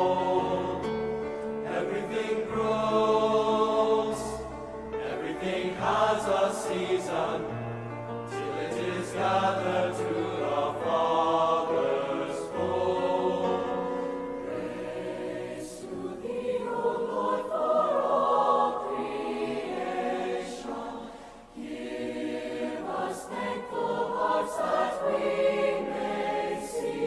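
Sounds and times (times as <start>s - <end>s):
choir singing a hymn: 0.0s - 27.0s.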